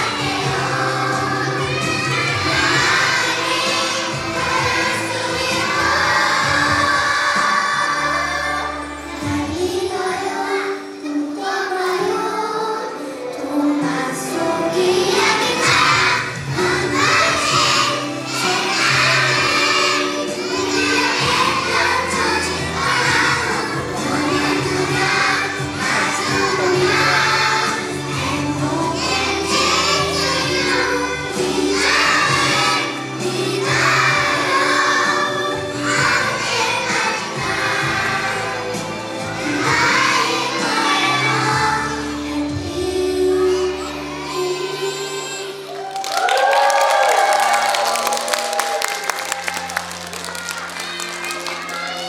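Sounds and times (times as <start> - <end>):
children singing: 0.0 - 45.8
music: 0.0 - 52.0.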